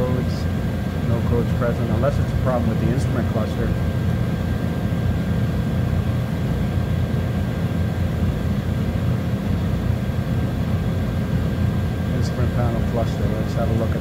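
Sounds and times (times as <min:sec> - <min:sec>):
low machine drone: 0:00.0 - 0:14.0.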